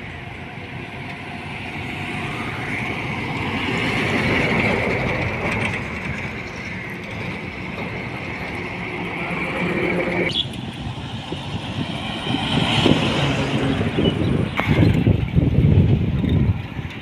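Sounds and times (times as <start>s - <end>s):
heavy vehicle passing: 0.0s - 16.7s.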